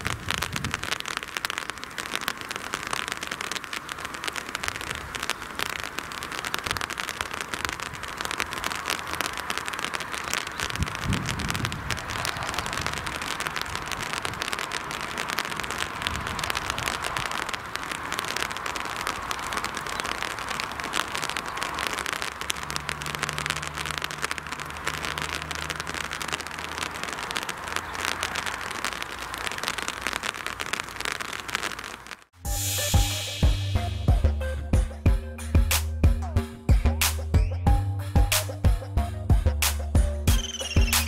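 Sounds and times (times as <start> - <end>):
light rain pattering: 0.0 - 34.3.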